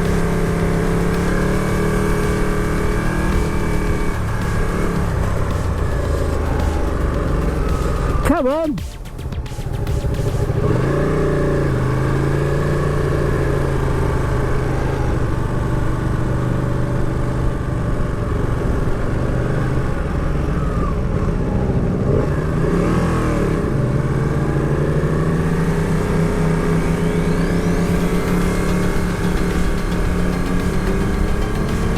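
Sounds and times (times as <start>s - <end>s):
motorcycle engine running: 0.0s - 31.9s
road noise: 0.0s - 31.9s.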